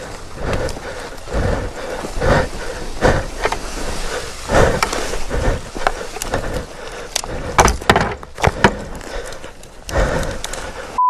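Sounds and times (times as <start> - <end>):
twigs snapping: 0.0 - 11.0.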